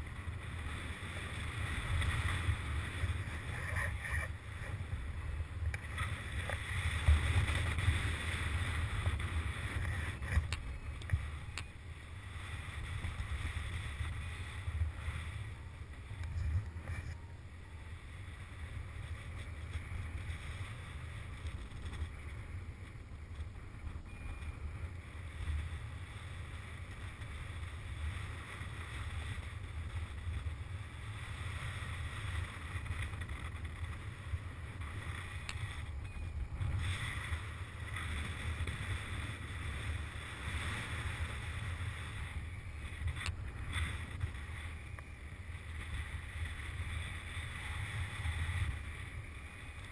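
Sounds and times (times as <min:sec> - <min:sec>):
faint ticks: 0:00.0 - 0:07.9, 0:08.9 - 0:11.8, 0:12.7 - 0:17.3, 0:18.1 - 0:49.9
wind rushing over microphone: 0:00.0 - 0:49.9.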